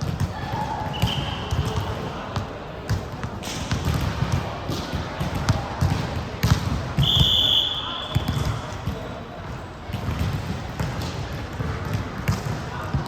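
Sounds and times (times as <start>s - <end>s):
basketball bouncing on court: 0.0s - 9.1s, 9.9s - 13.0s.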